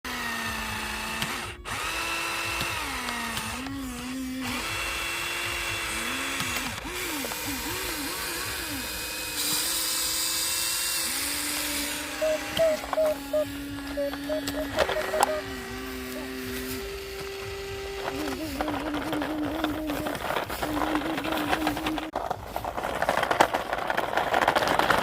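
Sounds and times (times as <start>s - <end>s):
small electric motor whining: 0.1s - 22.2s.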